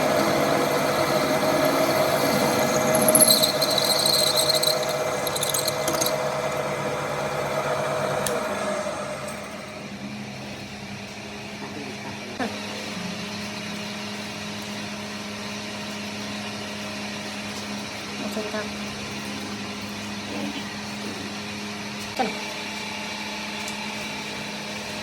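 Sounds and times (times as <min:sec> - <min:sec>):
workshop machine running: 0:00.0 - 0:25.0.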